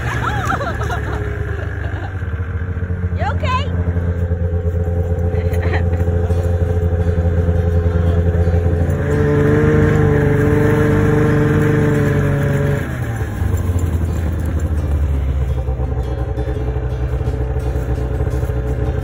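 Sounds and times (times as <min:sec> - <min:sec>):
small vehicle engine running: 0:00.0 - 0:19.0.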